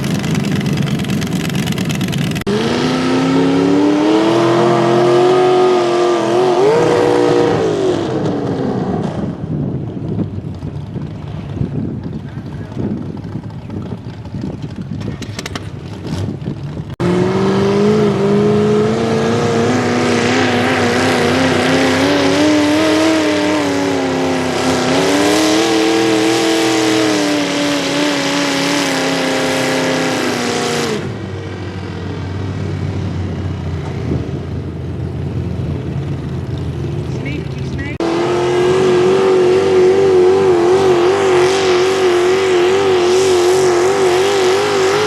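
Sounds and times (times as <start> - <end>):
tractor engine at full throttle: 0.0 - 45.0.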